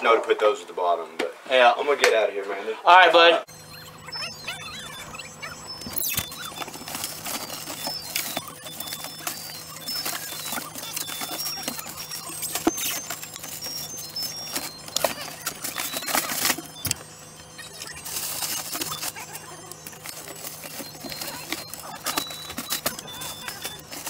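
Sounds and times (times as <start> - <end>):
plastic wrappers crinkling: 4.2 - 24.0.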